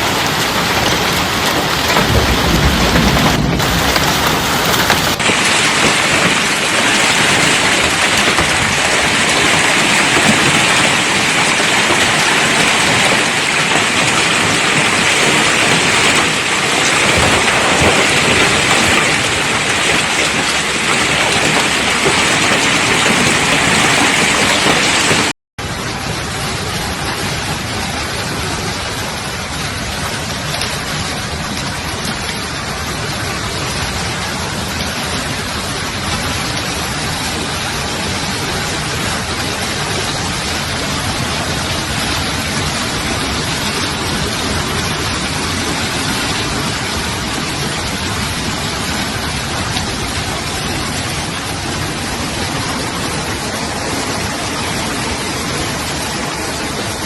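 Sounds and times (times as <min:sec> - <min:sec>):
heavy rain and hail: 0:00.0 - 0:57.0.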